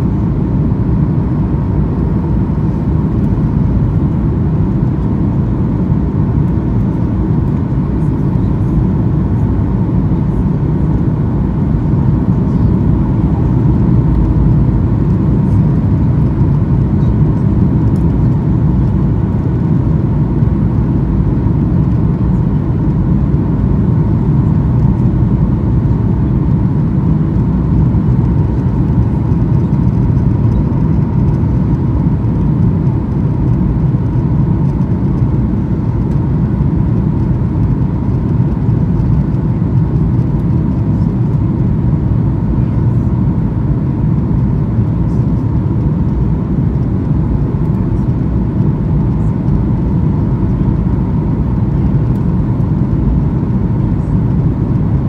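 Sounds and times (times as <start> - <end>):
airplane cabin rumble: 0.0 - 55.0
faint steady whine: 0.0 - 55.0.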